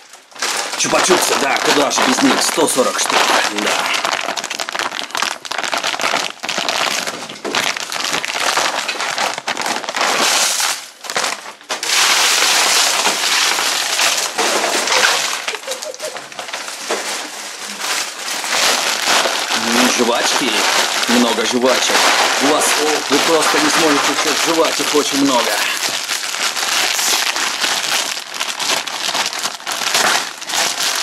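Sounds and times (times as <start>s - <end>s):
wrapped candies clattering: 0.0s - 31.0s.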